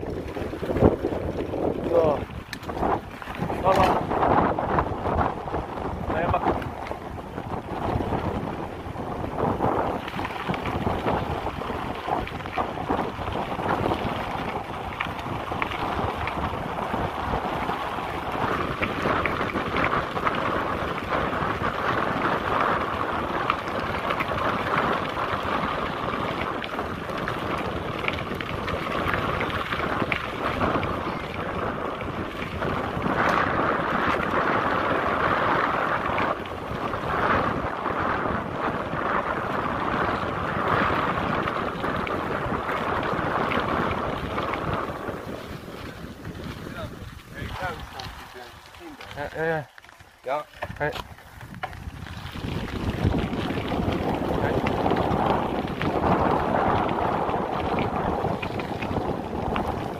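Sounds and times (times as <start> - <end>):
bike clicks and rattles: 0.0 - 59.9
tyres rolling on gravel: 0.0 - 59.9
wind buffeting microphone: 0.0 - 59.9.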